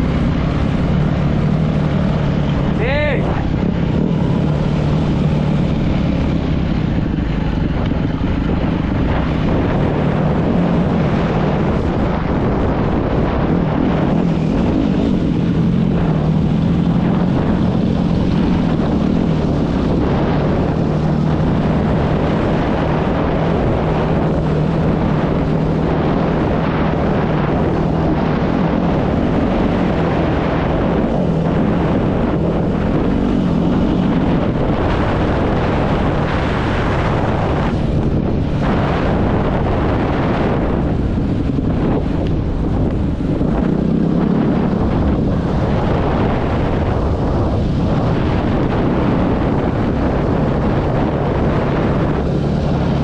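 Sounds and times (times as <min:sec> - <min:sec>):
dirt bike engine running: 0:00.0 - 0:53.0
wind buffeting microphone: 0:00.0 - 0:53.0.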